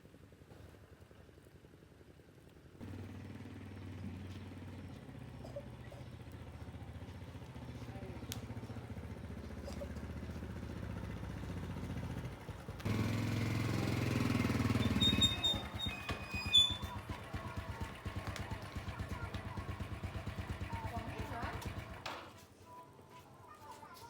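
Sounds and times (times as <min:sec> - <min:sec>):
small engine running: 0:01.7 - 0:22.3
louder engine running: 0:02.8 - 0:22.1.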